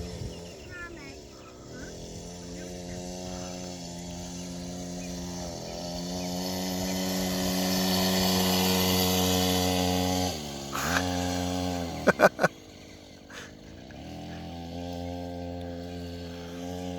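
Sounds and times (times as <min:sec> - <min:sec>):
motocross bike engine running: 0:00.0 - 0:16.9.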